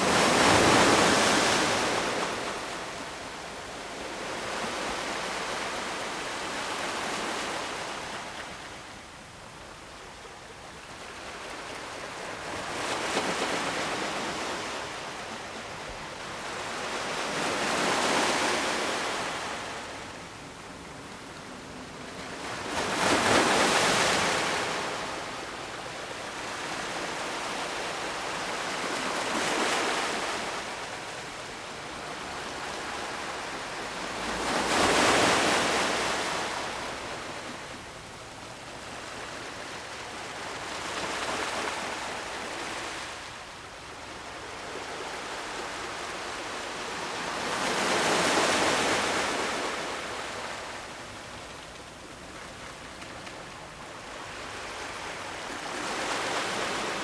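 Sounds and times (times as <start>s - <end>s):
ocean waves breaking on shore: 0.0s - 8.9s, 11.0s - 57.0s.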